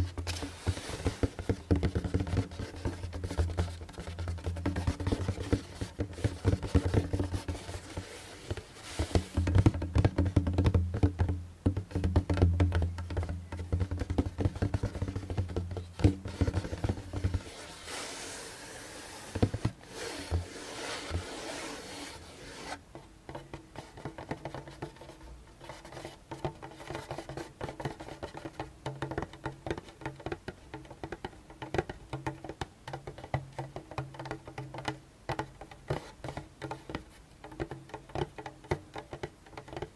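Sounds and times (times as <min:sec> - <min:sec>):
hand drum tapping: 0:00.0 - 0:17.8, 0:22.9 - 0:39.9
scratching on drum head: 0:00.0 - 0:39.9.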